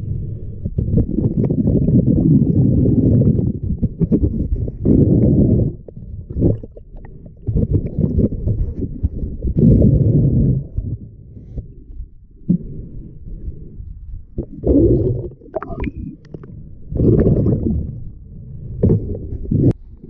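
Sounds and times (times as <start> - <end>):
muffled underwater water surges: 0.0 - 20.0.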